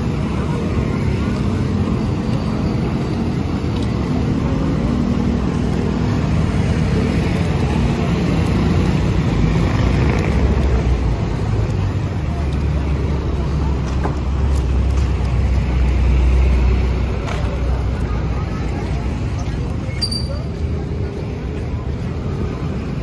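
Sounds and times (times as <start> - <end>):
cars passing: 0.0 - 23.0
rumble of engines and tyres: 0.0 - 23.0.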